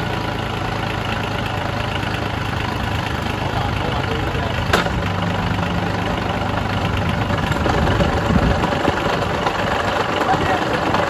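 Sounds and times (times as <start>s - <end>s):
small diesel engine idling: 0.0s - 11.0s.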